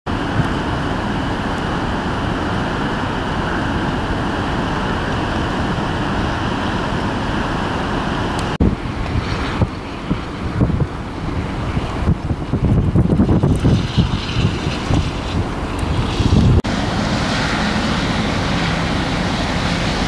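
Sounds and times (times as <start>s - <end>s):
blizzard wind rushing: 0.1s - 20.0s
wind buffeting microphone: 0.1s - 20.0s.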